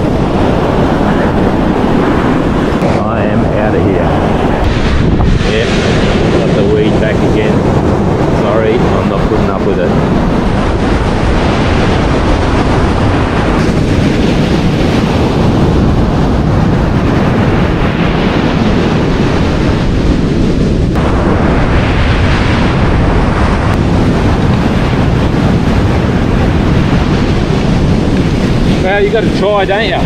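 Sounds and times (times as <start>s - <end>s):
surf breaking on a beach: 0.0s - 30.0s
wind buffeting microphone: 0.0s - 30.0s.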